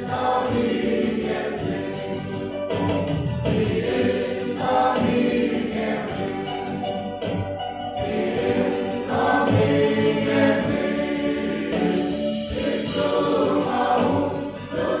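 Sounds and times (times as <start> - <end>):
mixed choir singing in harmony: 0.0 - 15.0.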